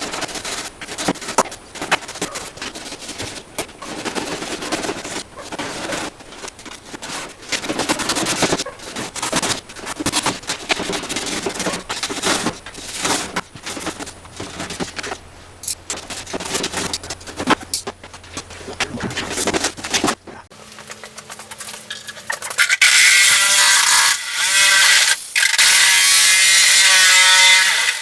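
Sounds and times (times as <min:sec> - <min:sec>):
scraping and crackling: 0:00.0 - 0:28.0.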